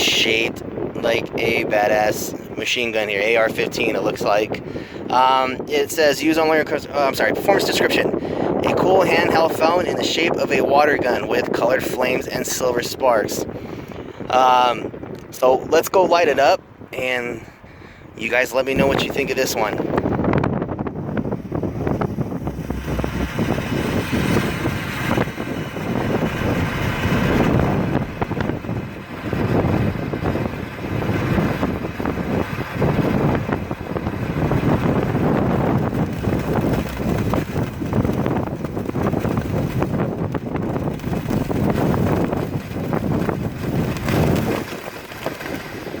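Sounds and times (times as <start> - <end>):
wind gusting on microphone: 0.0 - 46.0.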